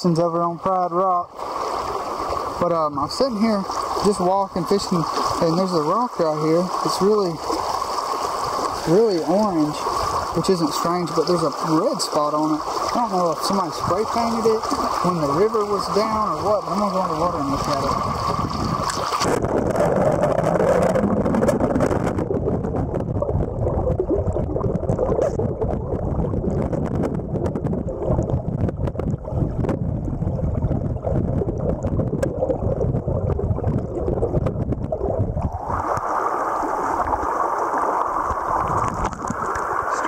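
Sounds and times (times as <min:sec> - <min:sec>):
muffled underwater river rushing: 0:00.0 - 0:40.0.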